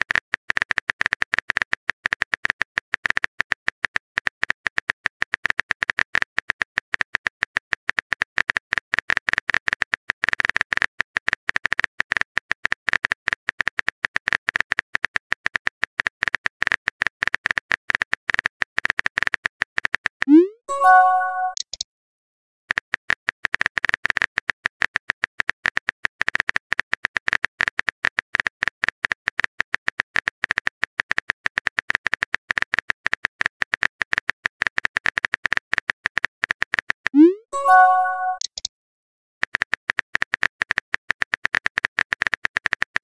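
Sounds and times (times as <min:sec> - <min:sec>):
rapid keyboard typing clicks: 0:00.0 - 0:21.8, 0:22.7 - 0:38.7, 0:39.4 - 0:43.0.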